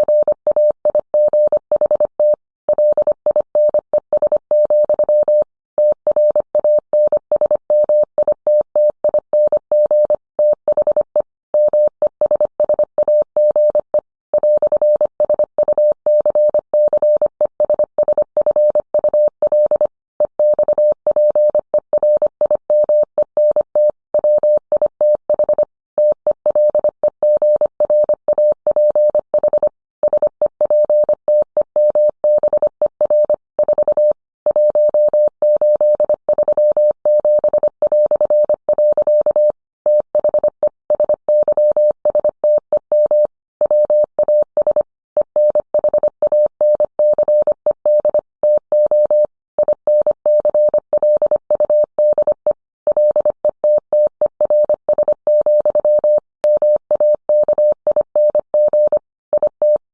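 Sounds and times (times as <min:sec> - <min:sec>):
morse code beeps: 0:00.0 - 0:59.9.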